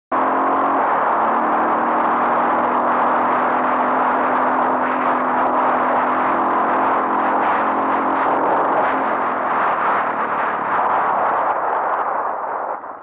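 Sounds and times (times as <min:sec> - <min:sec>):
wind noise on microphone: 0:00.1 - 0:13.0
dirt bike engine running: 0:00.2 - 0:11.5.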